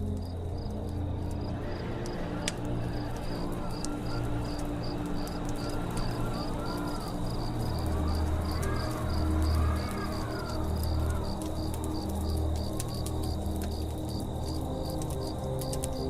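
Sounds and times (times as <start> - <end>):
campfire rumbling and crackling: 0.0 - 16.0
crickets chirping: 0.0 - 16.0.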